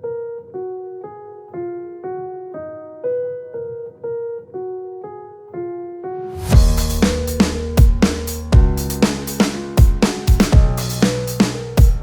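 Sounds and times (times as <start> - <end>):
slow piano-like keyboard melody: 0.0 - 12.0.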